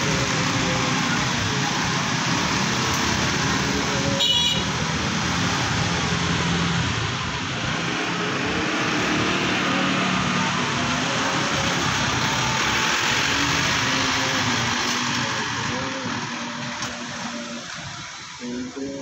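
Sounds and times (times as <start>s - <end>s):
scooters and cars passing: 0.0s - 19.0s.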